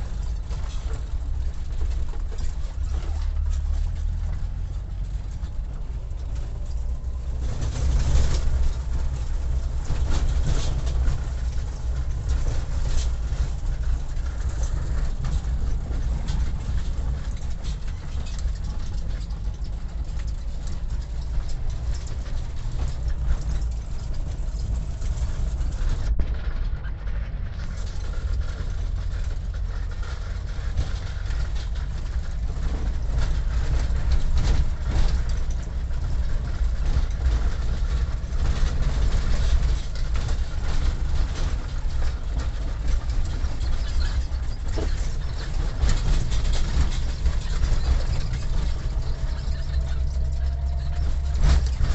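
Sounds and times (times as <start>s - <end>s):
vehicle rumbling along road: 0.0s - 51.9s.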